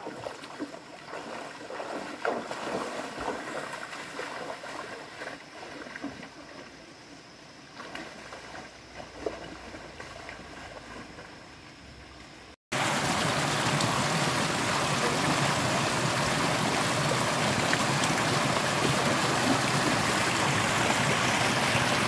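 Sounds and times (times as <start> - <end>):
people wading splashing water: 0.0 - 7.0, 7.8 - 11.4, 12.7 - 22.0
stream flowing: 0.0 - 22.0.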